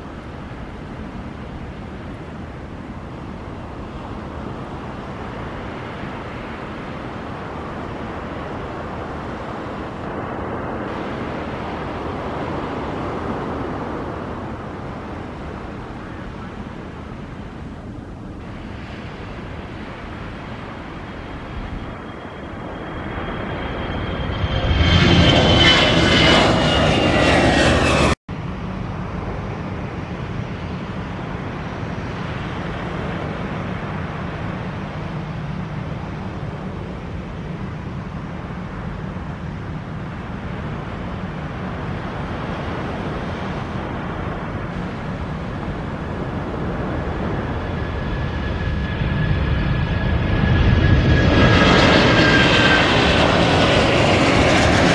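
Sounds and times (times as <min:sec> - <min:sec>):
jet engine roar and whine: 0:00.0 - 0:54.9
steady low rumble: 0:00.0 - 0:54.9.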